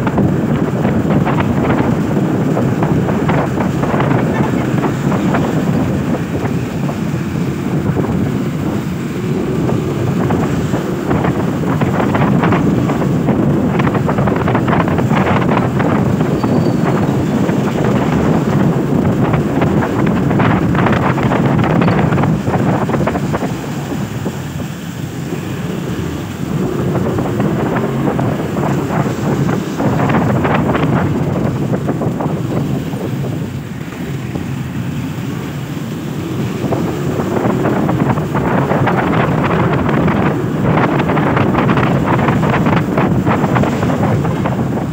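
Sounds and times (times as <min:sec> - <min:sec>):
tyres hissing on wet road: 0:00.0 - 0:44.9
wind buffeting microphone: 0:00.0 - 0:44.9.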